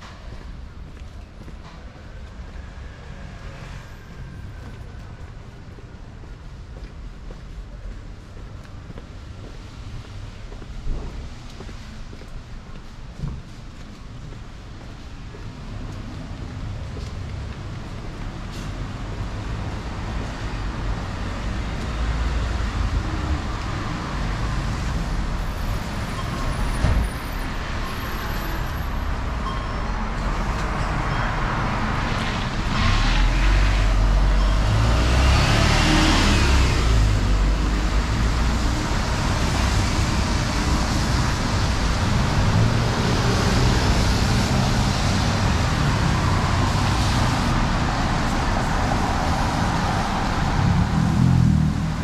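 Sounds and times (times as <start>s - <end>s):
vehicles passing on wet street: 0.0s - 52.0s.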